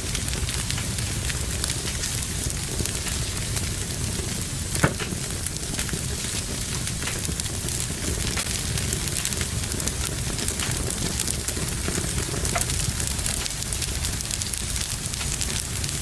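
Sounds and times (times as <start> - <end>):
fire crackling: 0.0 - 16.0
fire popping: 0.0 - 16.0.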